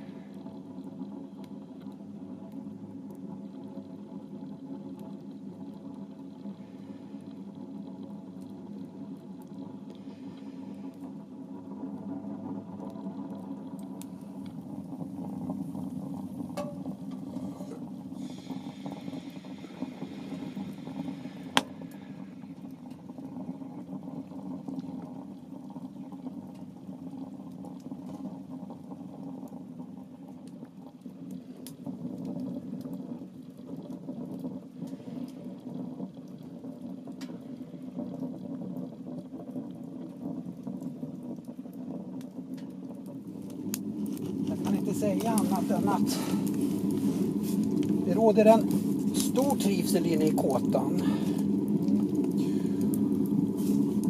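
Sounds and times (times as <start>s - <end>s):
wood stove fire rushing: 0.0s - 54.0s
wood crackling: 8.3s - 54.0s.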